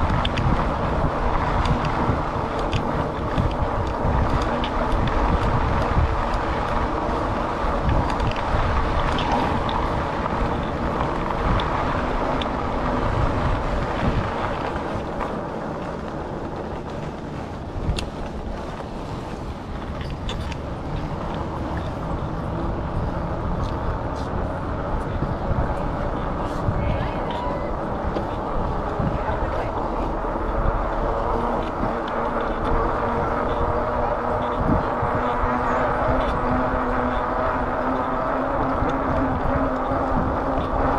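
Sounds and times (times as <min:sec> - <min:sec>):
low riding rumble: 0:00.0 - 0:40.9
wind buffeting microphone: 0:00.0 - 0:40.9.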